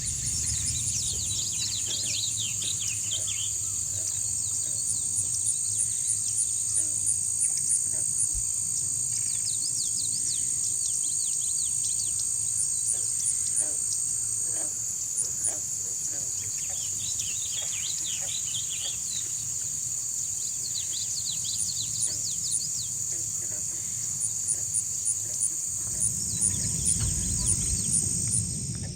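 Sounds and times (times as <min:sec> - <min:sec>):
frogs chirping: 0:00.0 - 0:28.9
high-pitched insect trill: 0:00.0 - 0:28.9.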